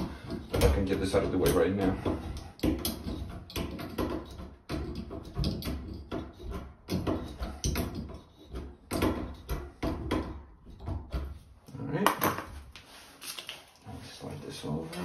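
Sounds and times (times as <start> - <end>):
metal hoses knocking and rattling: 0.0 - 15.0.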